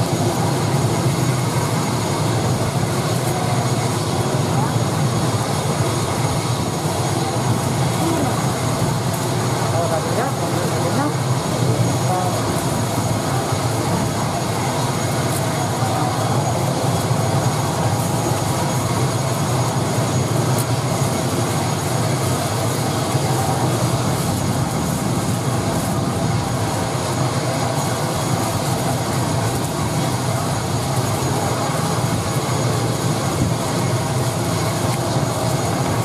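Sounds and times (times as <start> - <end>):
turboprop engine drone: 0.0 - 36.0.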